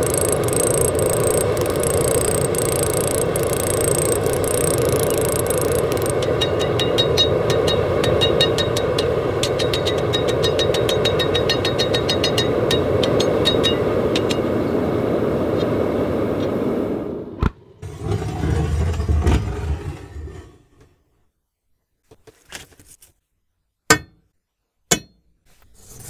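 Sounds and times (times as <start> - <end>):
steady roar of burner: 0.0 - 21.0.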